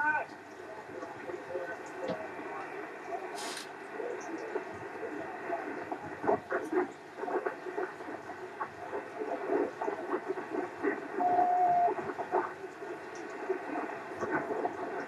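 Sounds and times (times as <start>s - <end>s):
radio static: 0.0s - 15.0s
weak choppy radio voice: 0.0s - 15.0s.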